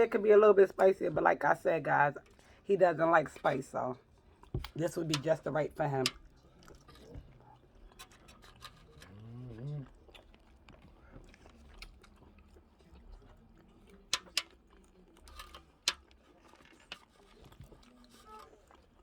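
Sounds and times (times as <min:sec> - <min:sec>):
close chewing and eating: 0:00.0 - 0:19.0.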